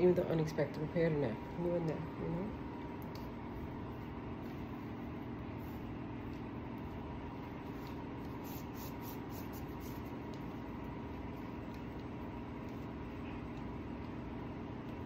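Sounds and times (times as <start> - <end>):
low machine hum with hiss: 0.0 - 15.0.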